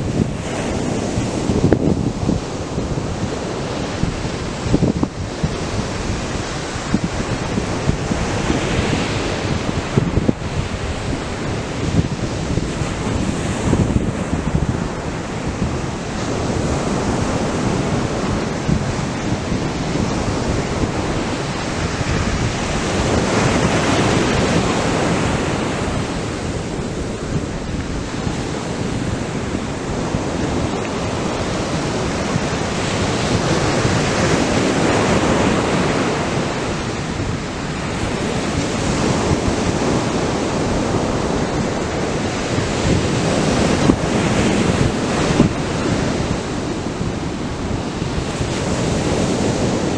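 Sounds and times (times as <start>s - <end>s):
surf breaking on beach: 0.0s - 49.9s.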